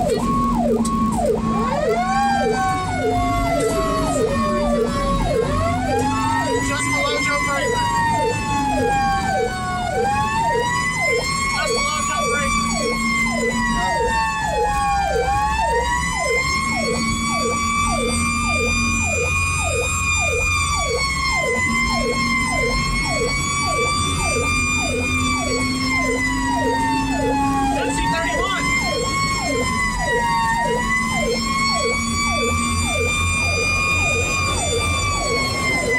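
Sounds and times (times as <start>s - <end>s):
fast sweeping siren: 0.0s - 35.9s
wailing siren: 0.0s - 35.9s.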